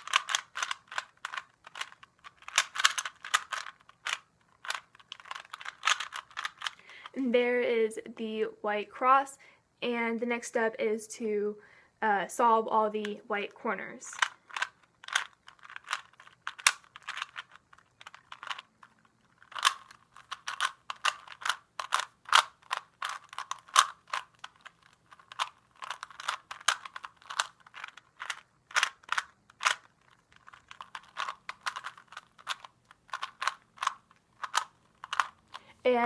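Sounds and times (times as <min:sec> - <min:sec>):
puzzle cube clicking turns: 0:00.0 - 0:07.2, 0:14.0 - 0:36.0.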